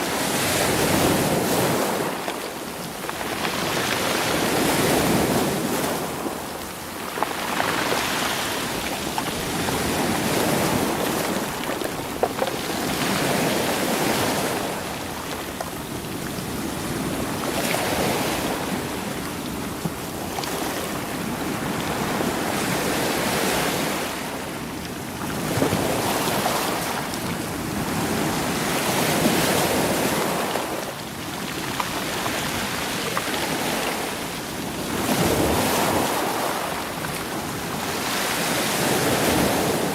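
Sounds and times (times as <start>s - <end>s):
waves rolling over stony beach: 0.0s - 39.9s.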